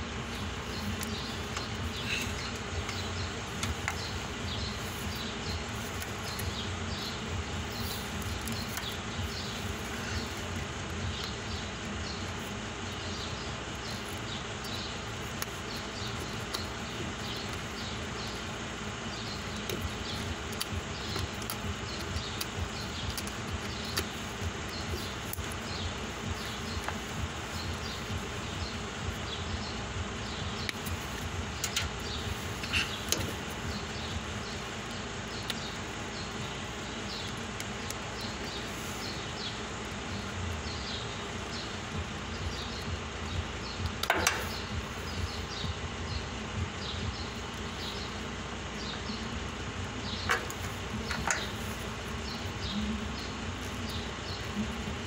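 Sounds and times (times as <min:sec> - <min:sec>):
insects buzzing: 0:00.0 - 0:55.0
steady background hum: 0:00.0 - 0:55.0.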